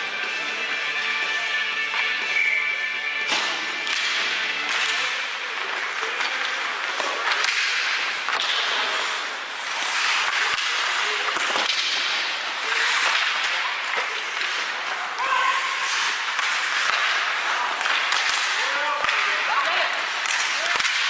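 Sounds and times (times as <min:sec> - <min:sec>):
hockey sticks and puck cracking: 0:03.2 - 0:21.0
skate blades scraping ice: 0:03.8 - 0:21.0.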